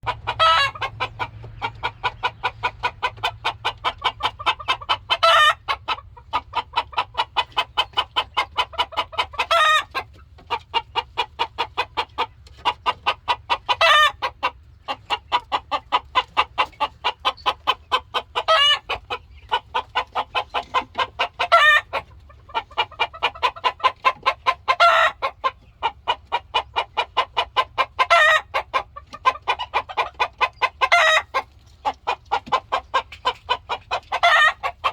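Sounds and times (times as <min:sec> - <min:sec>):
rooster clucking rapidly: 0:00.0 - 0:34.9.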